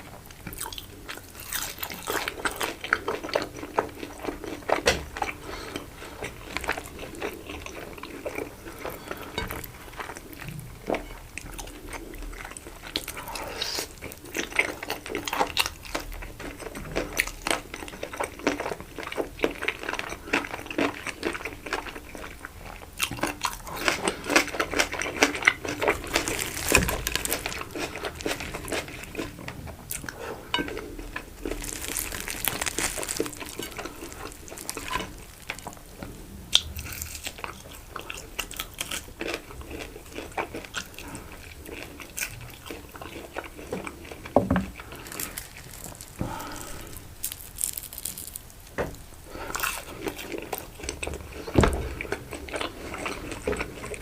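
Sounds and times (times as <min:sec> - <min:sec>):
biting and crunchy chewing: 0:00.0 - 0:54.0.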